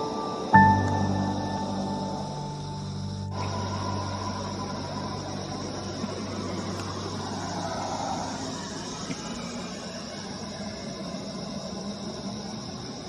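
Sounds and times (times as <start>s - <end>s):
high-pitched insect chorus: 0.0s - 13.0s
road traffic: 0.0s - 13.0s
vehicle passing: 1.4s - 12.6s.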